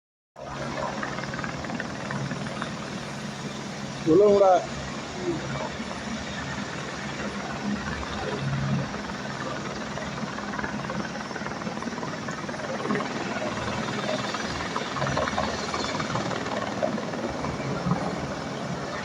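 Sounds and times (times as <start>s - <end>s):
helicopter rotor and engine: 0.4s - 19.0s.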